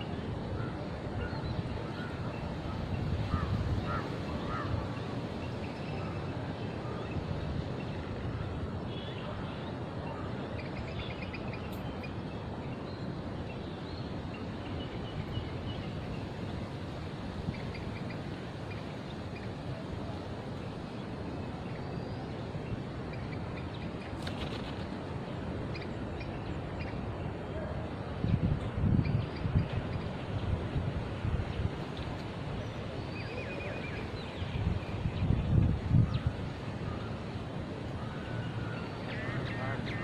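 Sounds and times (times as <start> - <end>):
steady outdoor background noise: 0.0 - 40.0.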